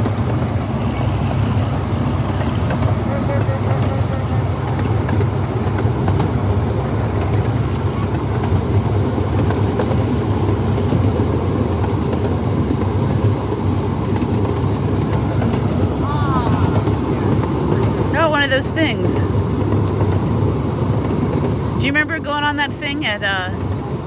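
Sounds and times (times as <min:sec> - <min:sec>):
ride-on train wheels rumbling: 0:00.0 - 0:24.0.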